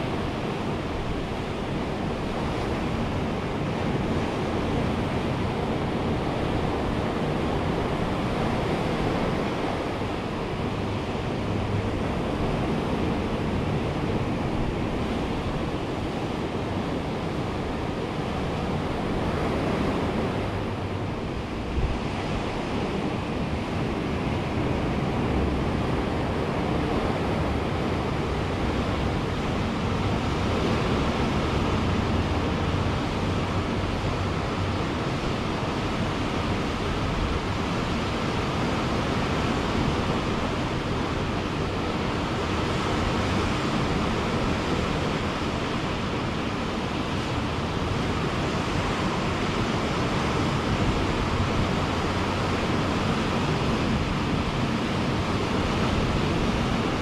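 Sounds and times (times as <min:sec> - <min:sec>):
ocean surf washing on beach: 0:00.0 - 0:57.0
wind rumble on microphone: 0:00.0 - 0:57.0.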